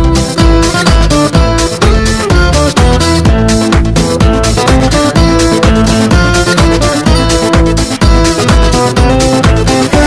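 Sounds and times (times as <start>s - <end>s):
upbeat music with plucked notes: 0.0s - 10.0s.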